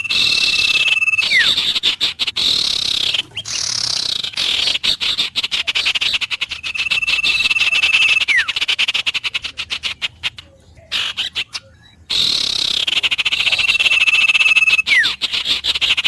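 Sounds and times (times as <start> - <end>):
bird whistling: 0.0 - 16.0
frogs calling in chorus: 0.0 - 16.0.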